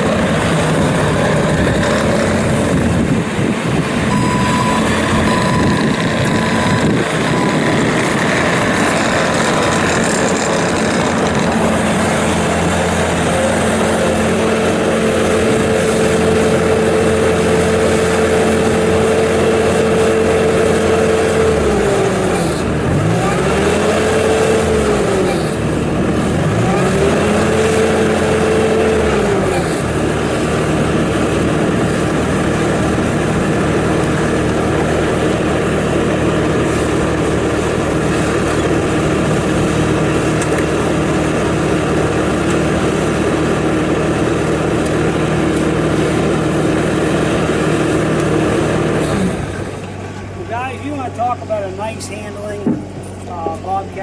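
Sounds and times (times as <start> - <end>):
diesel loader engine running: 0.0 - 54.0.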